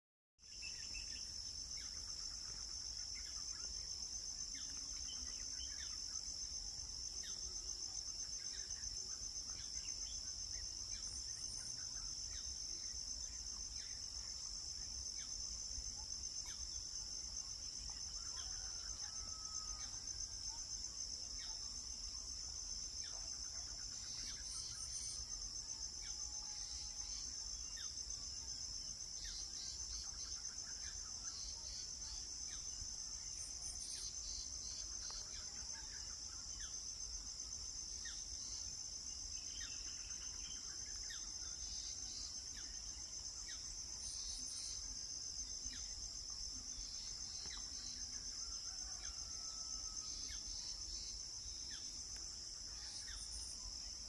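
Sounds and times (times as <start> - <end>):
insect chorus trilling: 0.4 - 54.0.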